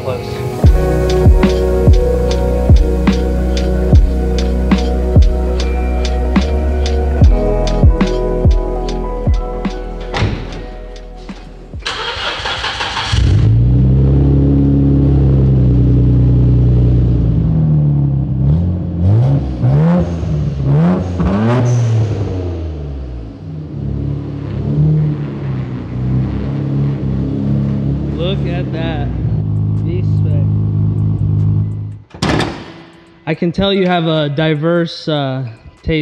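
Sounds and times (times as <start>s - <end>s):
engine throttle blips: 0.0s - 32.1s
car engine starting and idling: 0.0s - 33.2s.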